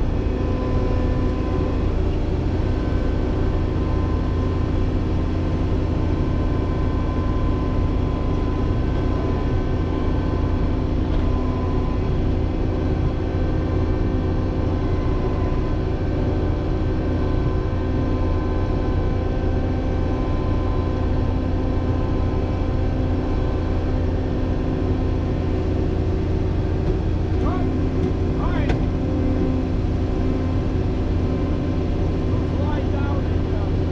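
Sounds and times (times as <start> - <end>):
diesel engine droning: 0.0 - 33.9.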